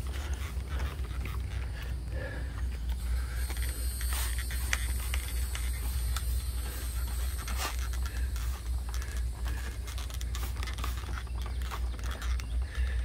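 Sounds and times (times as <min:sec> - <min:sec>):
scratching and scraping handling noises: 0:00.0 - 0:13.0
steady low rumble: 0:00.0 - 0:13.0
small clicks: 0:02.5 - 0:13.0.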